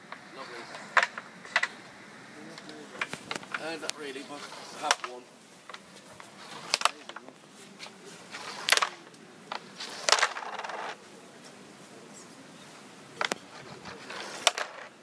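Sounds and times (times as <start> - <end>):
wooden discs clacking: 0.0 - 1.8, 2.5 - 11.0, 13.2 - 15.0.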